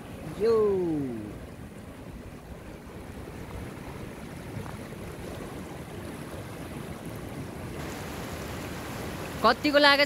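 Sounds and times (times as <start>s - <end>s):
mountain river rushing: 0.0s - 10.0s.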